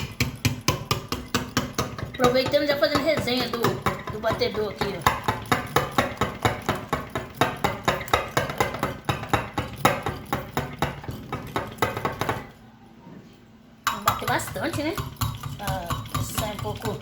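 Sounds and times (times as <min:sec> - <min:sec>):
whisk beating egg in cup: 0:00.0 - 0:12.5, 0:13.9 - 0:17.0.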